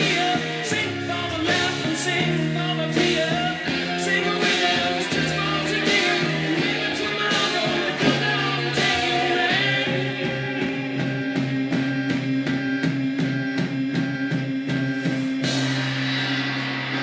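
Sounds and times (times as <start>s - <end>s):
rock music with singing: 0.0s - 17.0s
steady drum beat: 0.0s - 17.0s.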